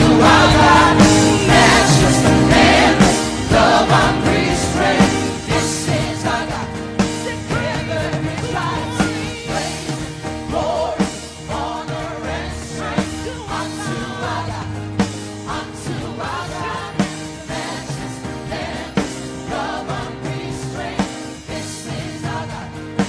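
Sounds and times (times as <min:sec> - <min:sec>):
worship music with singing: 0:00.0 - 0:23.0.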